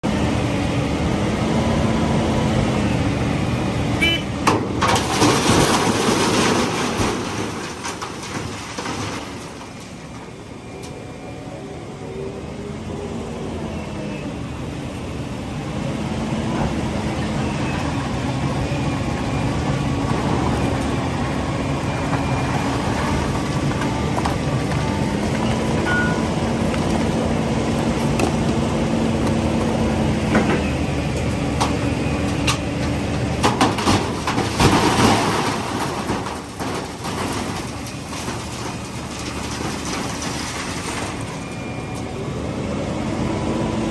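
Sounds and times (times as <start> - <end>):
diesel excavator engine running: 0.0 - 43.9.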